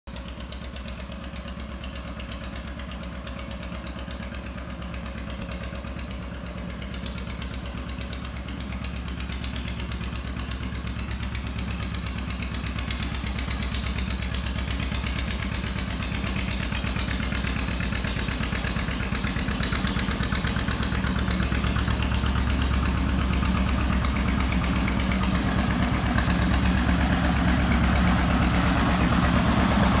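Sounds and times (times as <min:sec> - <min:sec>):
tractor engine popping: 0:00.1 - 0:30.0.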